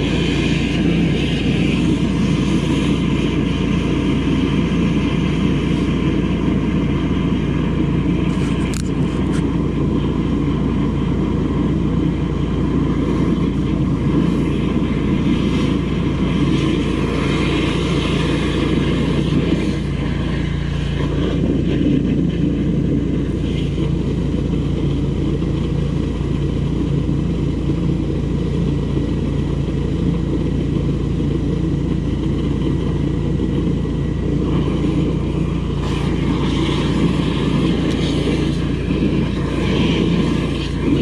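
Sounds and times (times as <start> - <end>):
pump engine humming: 0.0 - 41.0.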